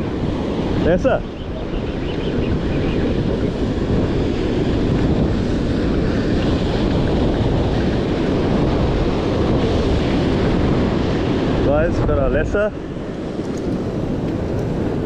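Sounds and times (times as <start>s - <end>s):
surf breaking on the shore: 0.0s - 15.0s
wind buffeting the microphone: 0.0s - 15.0s.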